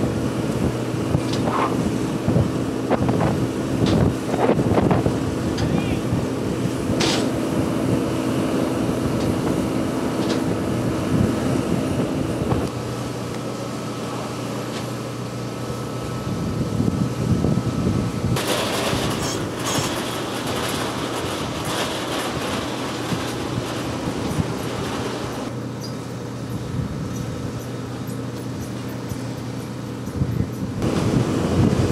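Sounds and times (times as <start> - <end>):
engines droning: 0.0 - 31.9.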